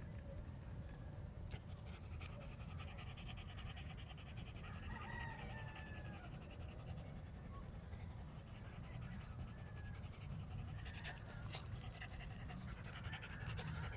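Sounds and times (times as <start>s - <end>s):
dogs panting: 1.5s - 13.9s.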